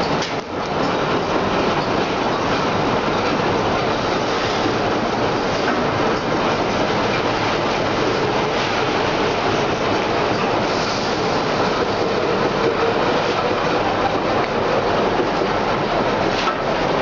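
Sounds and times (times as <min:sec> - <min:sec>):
belt conveyor running: 0:00.0 - 0:17.0.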